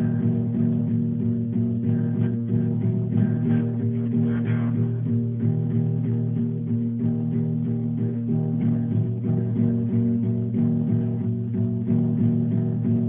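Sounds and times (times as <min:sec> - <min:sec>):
guitar picking plucked notes: 0:00.0 - 0:13.0.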